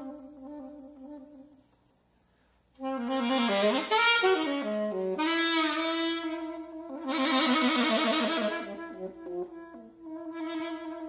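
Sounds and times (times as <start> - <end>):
solo alto saxophone free jazz: 0.0 - 11.0.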